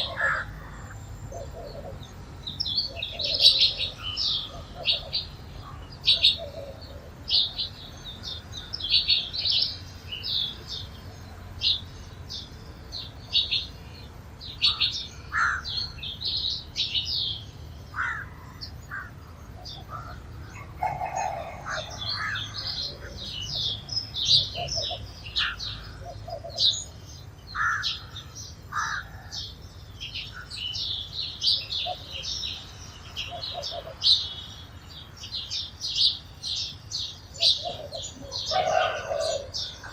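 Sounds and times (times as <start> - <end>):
lower bird calls: 0.0 - 39.9
sparrows chirping: 0.0 - 39.9.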